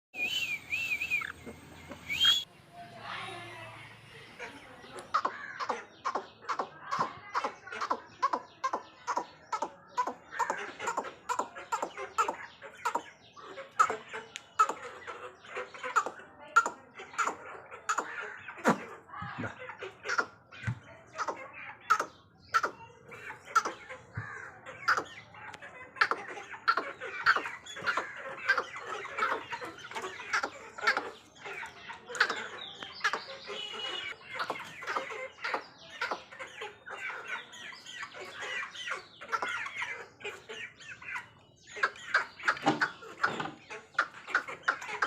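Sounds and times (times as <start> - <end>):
chickens clucking: 0.2 - 45.0.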